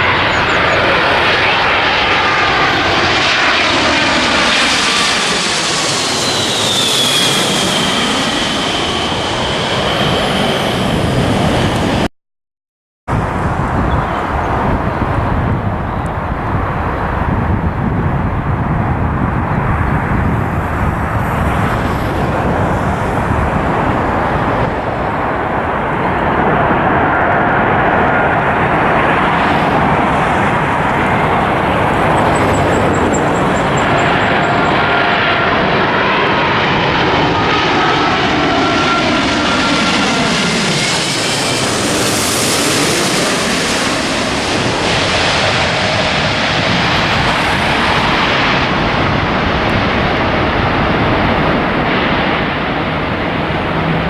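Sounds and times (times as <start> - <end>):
jet engines passing overhead: 0.0 - 12.1, 13.1 - 54.0.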